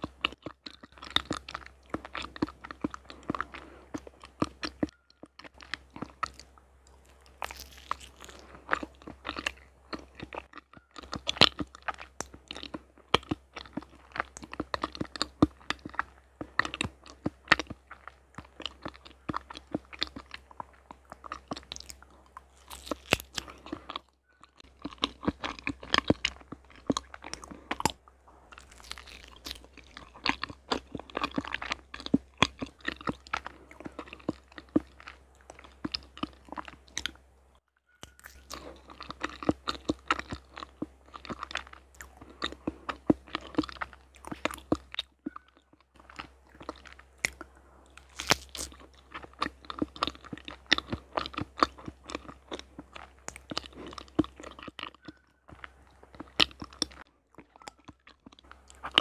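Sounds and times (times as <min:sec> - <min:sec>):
chewing mouth clicks: 0:00.0 - 0:37.3, 0:37.9 - 0:59.0.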